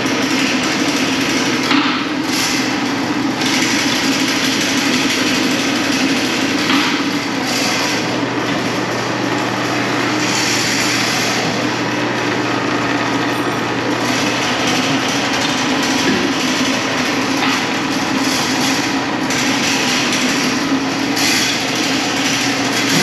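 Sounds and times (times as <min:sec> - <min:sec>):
mechanical drone: 0:00.0 - 0:23.0.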